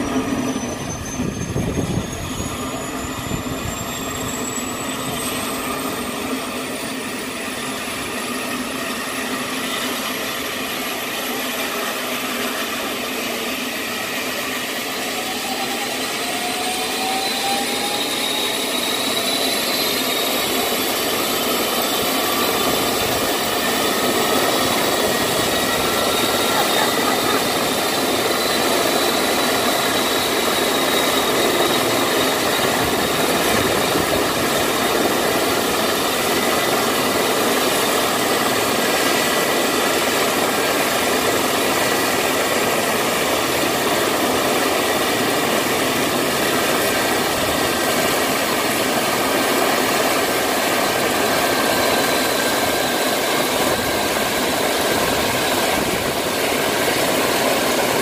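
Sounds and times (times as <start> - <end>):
helicopter turbine idling: 0.0 - 58.0.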